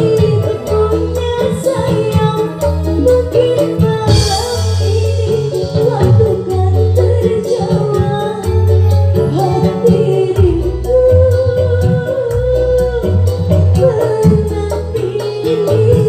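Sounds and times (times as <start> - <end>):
live band through loudspeakers: 0.0 - 16.0
steady drum beat: 0.0 - 16.0
woman singing: 0.0 - 16.0.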